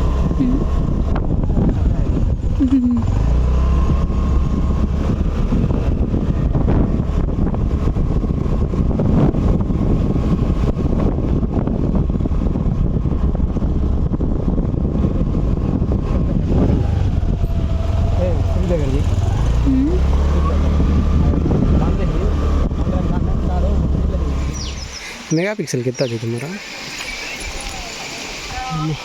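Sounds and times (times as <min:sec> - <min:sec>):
wind on microphone: 0:00.0 - 0:25.3
vehicle rumble: 0:00.0 - 0:29.0.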